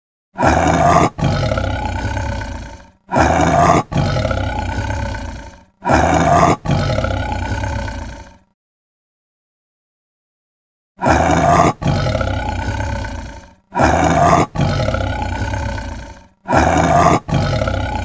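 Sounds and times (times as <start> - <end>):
big cat roaring: 0.4 - 8.5, 11.0 - 18.0.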